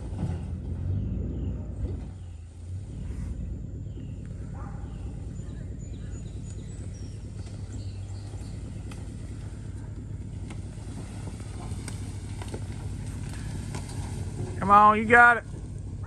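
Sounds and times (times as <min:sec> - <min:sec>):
pickup truck engine droning: 0:00.0 - 0:16.0.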